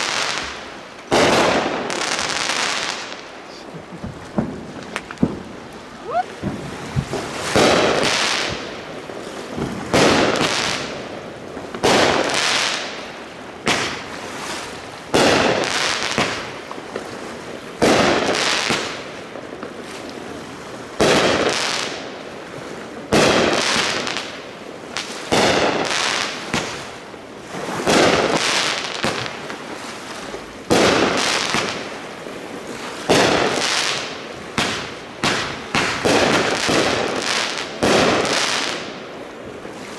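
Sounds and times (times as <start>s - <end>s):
fireworks bangs with sizzling tails: 0.0s - 39.9s.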